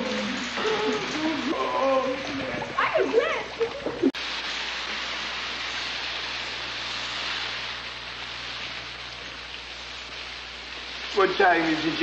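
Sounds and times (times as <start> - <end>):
sprinklers spraying water: 0.0 - 12.0.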